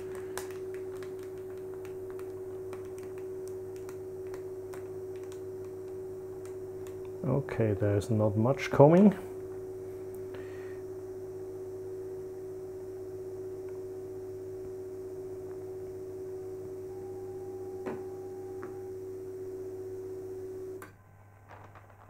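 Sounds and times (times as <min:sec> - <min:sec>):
thermal printer humming: 0:00.0 - 0:20.9.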